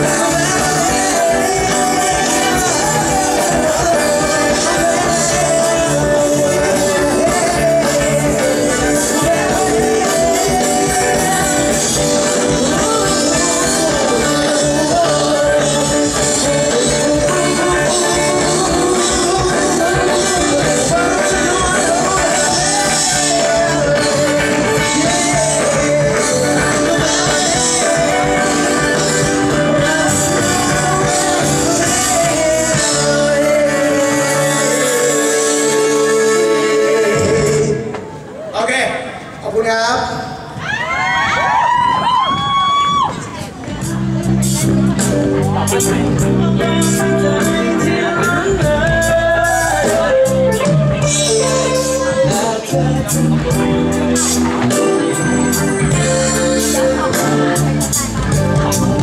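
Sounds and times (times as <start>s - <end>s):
bass line: 0.0s - 37.9s, 41.5s - 59.0s
man singing: 0.0s - 38.2s, 43.8s - 59.0s
live band music: 0.0s - 39.6s, 41.6s - 59.0s.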